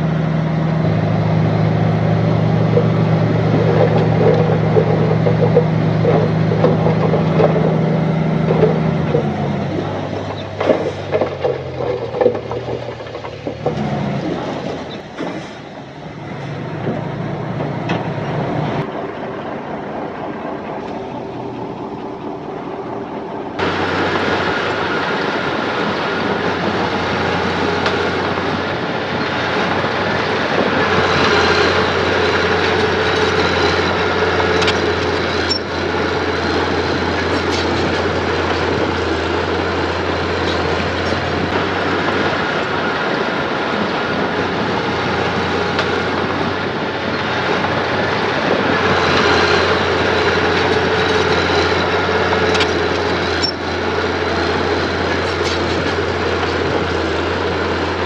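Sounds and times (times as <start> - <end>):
diesel machinery engine running: 0.0 - 58.0.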